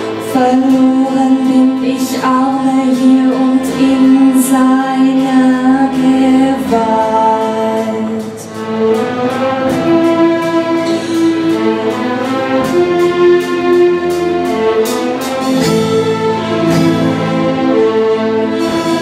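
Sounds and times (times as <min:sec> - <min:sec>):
orchestral accompaniment: 0:00.0 - 0:19.0
light percussion beat: 0:02.2 - 0:19.0.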